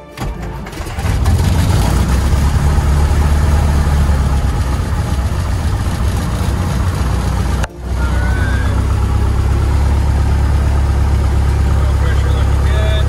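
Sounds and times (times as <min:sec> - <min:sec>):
light aircraft engine and propeller: 0:00.4 - 0:13.0.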